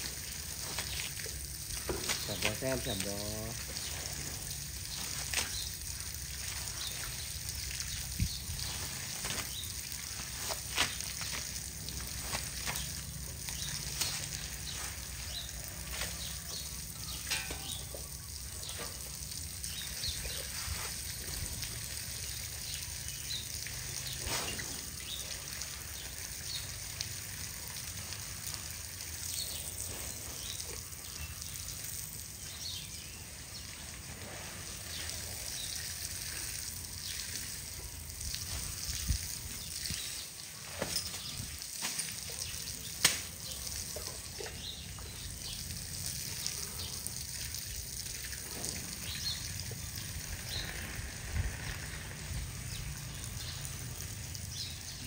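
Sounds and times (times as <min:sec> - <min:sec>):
garden hose spraying on concrete: 0:00.0 - 0:55.0.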